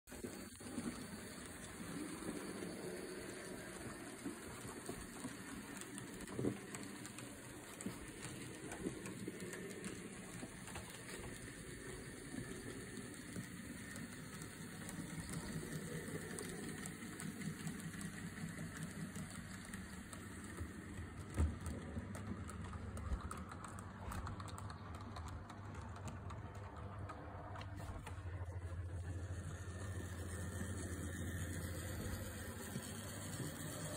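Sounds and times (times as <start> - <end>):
model train running on rails: 0.1 - 33.9.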